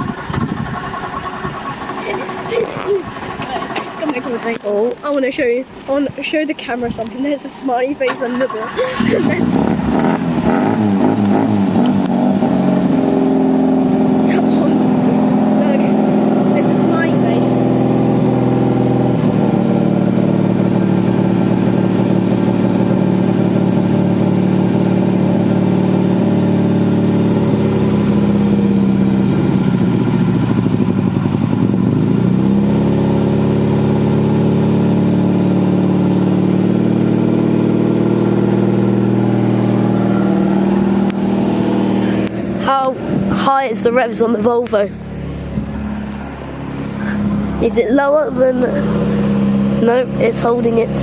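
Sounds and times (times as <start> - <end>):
petrol car engine running: 0.0 - 51.0.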